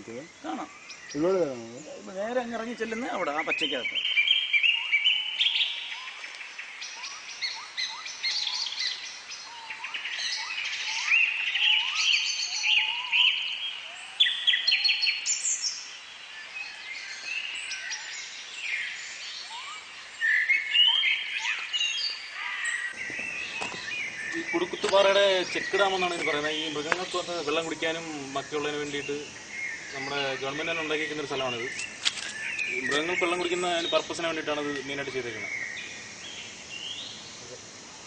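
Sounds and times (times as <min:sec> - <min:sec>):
birds chirping and whistling: 0:00.0 - 0:38.0.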